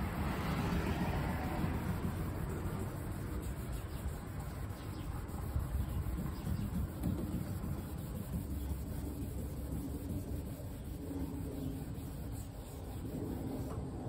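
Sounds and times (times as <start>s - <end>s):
damp sanding strokes: 0.0s - 14.0s
steady low rumble: 0.0s - 14.0s.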